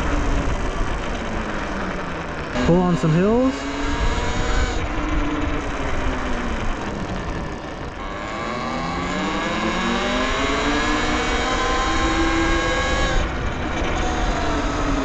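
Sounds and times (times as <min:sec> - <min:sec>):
electric dirt bike motor whining: 0:00.0 - 0:15.0
wind and road noise: 0:00.0 - 0:15.0.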